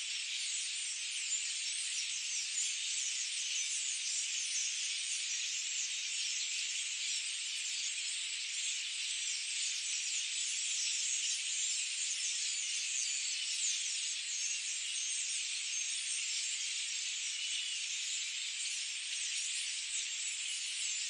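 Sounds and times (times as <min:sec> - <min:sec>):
chorus of small birds chirping: 0:00.0 - 0:21.0.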